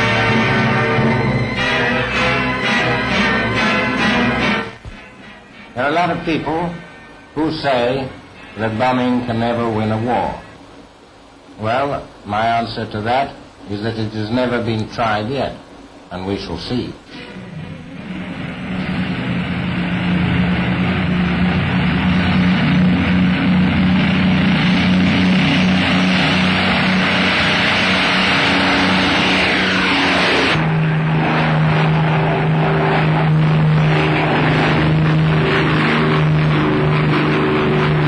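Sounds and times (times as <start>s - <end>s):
falling whine: 0.0s - 38.0s
piston aircraft engines droning: 0.0s - 38.0s.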